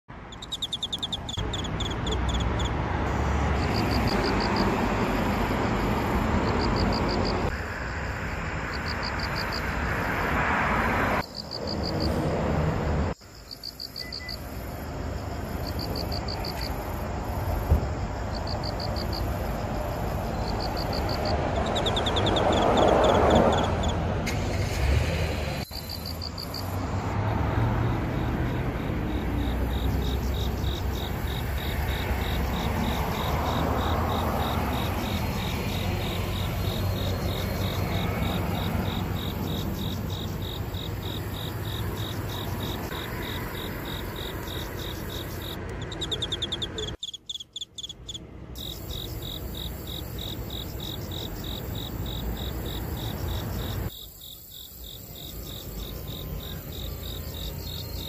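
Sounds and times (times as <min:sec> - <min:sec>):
cricket chirping trill: 0:00.2 - 0:58.0.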